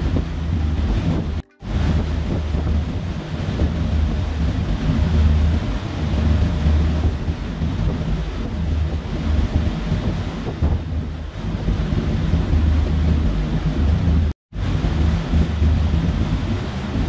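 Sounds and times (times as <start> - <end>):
water rushing: 0.0 - 17.0
wind buffeting microphone: 0.0 - 17.0.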